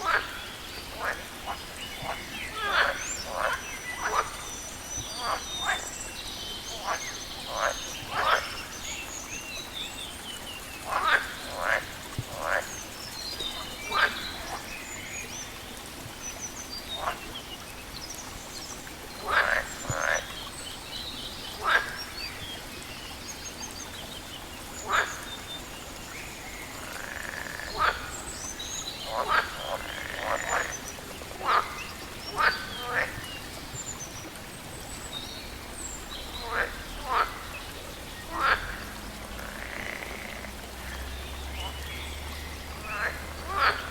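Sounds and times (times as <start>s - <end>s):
frogs croaking: 0.0s - 6.0s, 6.7s - 17.4s, 18.8s - 43.9s.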